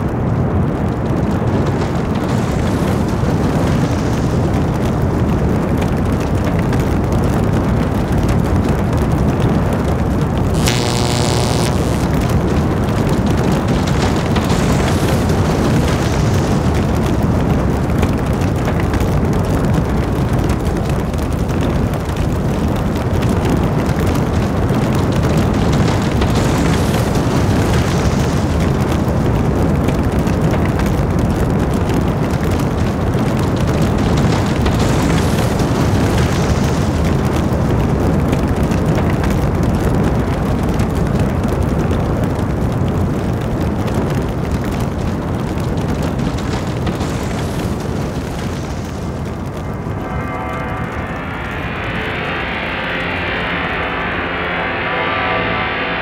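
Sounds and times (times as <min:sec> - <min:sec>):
tornado winds roaring: 0:00.0 - 0:56.0.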